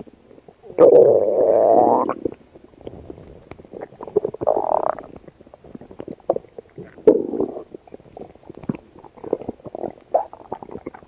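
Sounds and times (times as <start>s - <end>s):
stomach growling and gurgling: 0.0s - 11.0s.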